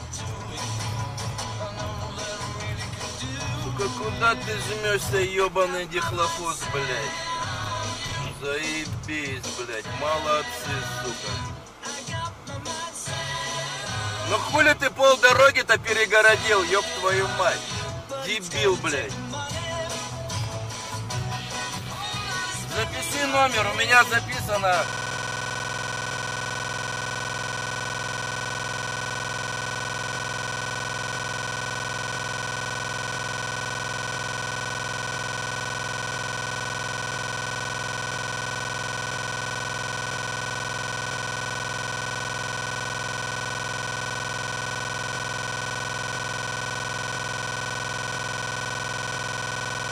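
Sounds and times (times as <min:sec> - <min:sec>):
steady electronic buzz: 0:00.0 - 0:49.9.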